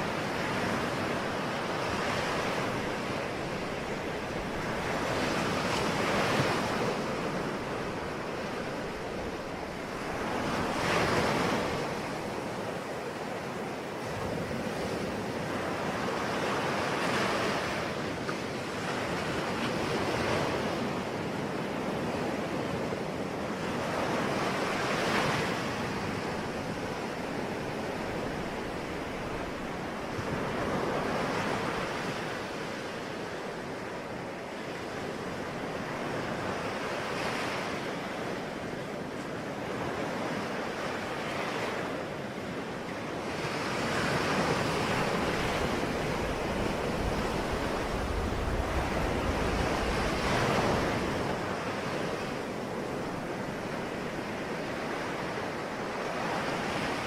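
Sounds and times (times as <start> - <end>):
sea waves breaking: 0.0 - 57.0.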